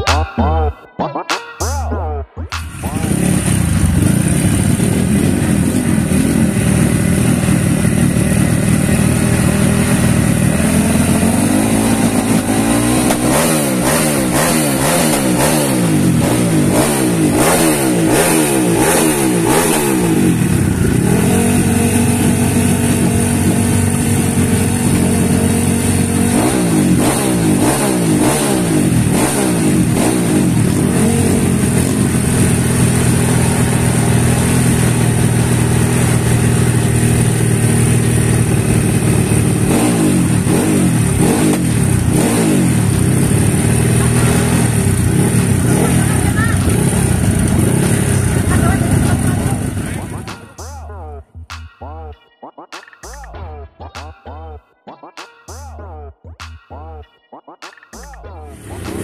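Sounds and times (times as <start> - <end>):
motocross bike engine revving: 2.6 - 51.2, 58.5 - 59.0.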